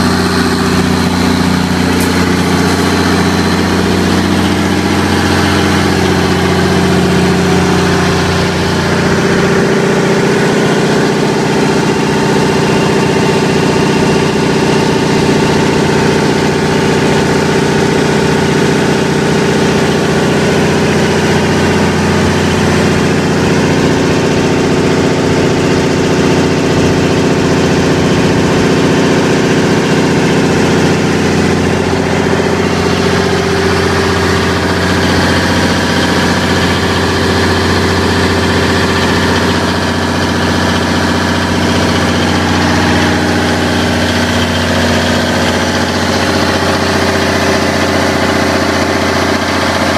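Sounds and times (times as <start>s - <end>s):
diesel generator running: 0.0s - 49.9s.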